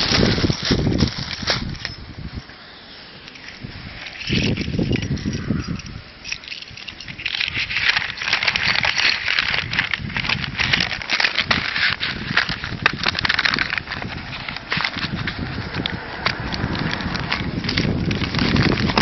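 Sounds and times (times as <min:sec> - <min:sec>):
paper crinkling and rustling: 0:00.0 - 0:02.0, 0:03.3 - 0:19.0.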